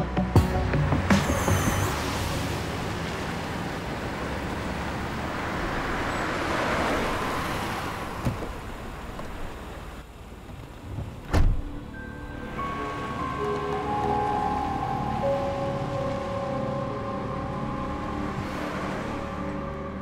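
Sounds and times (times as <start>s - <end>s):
cars driving past: 0.9s - 9.8s, 11.9s - 20.0s.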